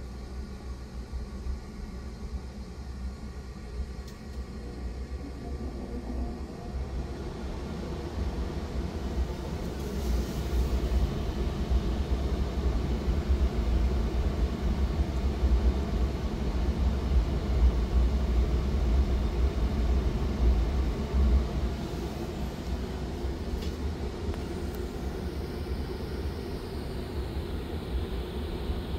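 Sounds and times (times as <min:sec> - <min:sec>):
gas furnace rumbling: 0:00.0 - 0:28.9.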